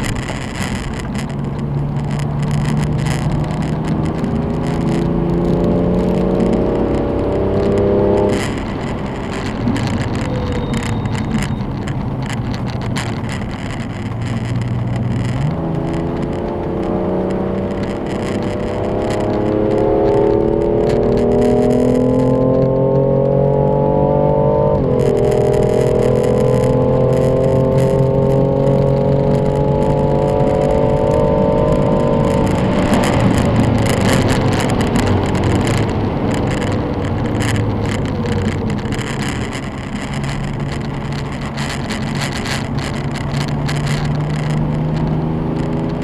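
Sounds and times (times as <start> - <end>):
car engine accelerating: 0.0 - 46.0
wind and road noise: 0.0 - 46.0.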